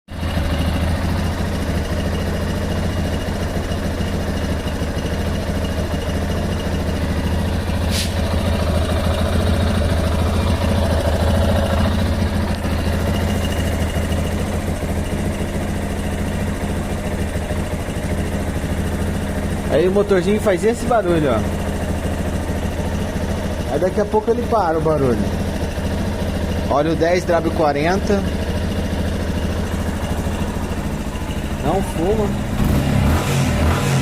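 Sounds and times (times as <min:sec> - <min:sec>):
motorcycle engine idling: 0:00.1 - 0:34.0.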